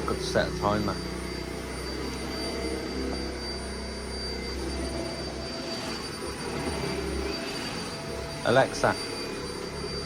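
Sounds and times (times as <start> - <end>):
low hum: 0.0 - 10.0
vacuum cleaner running: 0.0 - 10.0.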